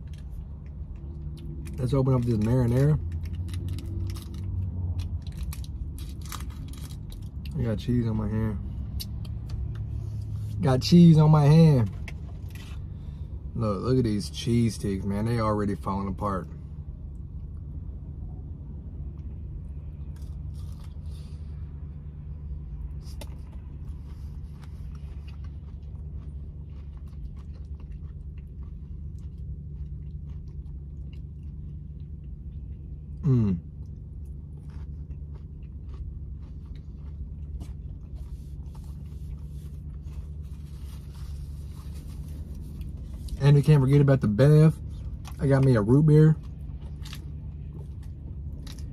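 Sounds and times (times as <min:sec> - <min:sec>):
chewing and biting cheese sticks: 0:00.0 - 0:10.4, 0:19.0 - 0:21.8, 0:22.6 - 0:48.9
low hum in a car cabin: 0:00.0 - 0:48.9.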